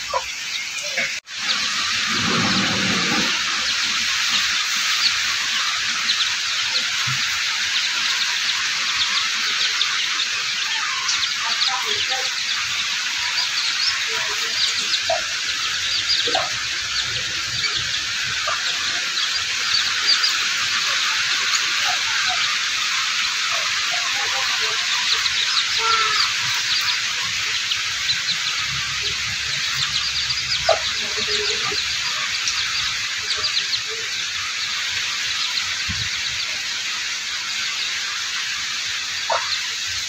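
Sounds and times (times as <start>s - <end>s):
chicks peeping: 0.0s - 40.0s
steady rain hiss: 0.0s - 40.0s.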